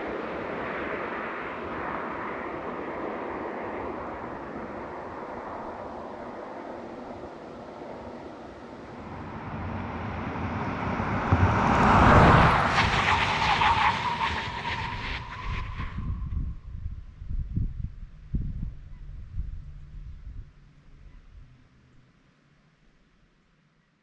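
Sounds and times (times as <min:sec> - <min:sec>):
road and tyre noise: 0:00.0 - 0:21.4.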